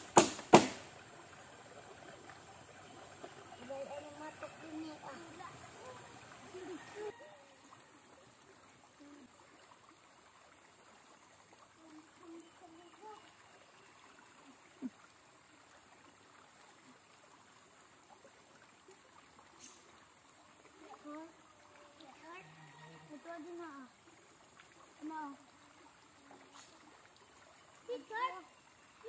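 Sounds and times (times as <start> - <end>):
stream running water: 0.0 - 29.0.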